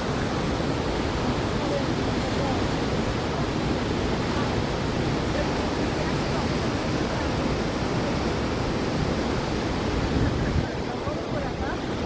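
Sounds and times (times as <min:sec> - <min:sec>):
rushing water roar: 0:00.0 - 0:12.0.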